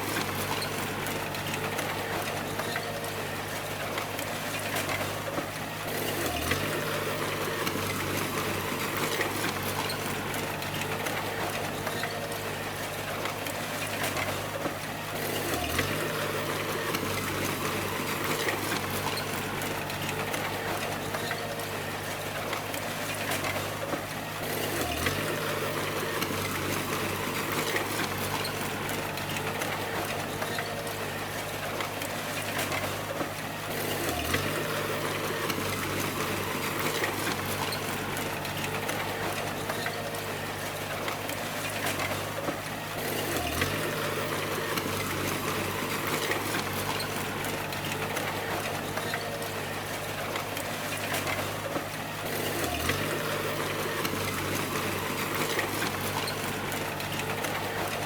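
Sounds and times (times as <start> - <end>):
bulldozer diesel engine rattling: 0.0 - 58.0.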